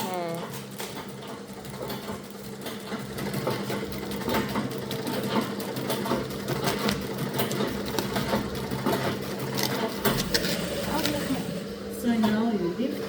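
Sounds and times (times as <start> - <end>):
sewing machine stitching: 0.0 - 11.6.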